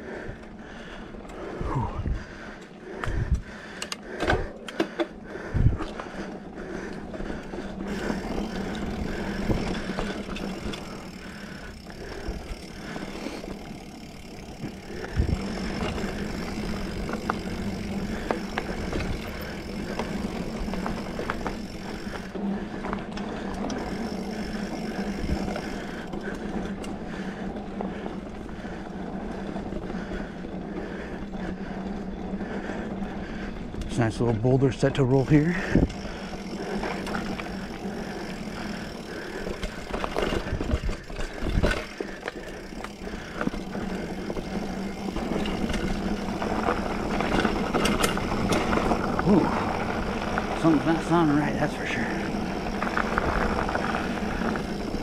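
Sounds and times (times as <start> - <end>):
bike chain rattling: 0.0 - 55.0
bike tyres rolling on dirt: 0.0 - 55.0.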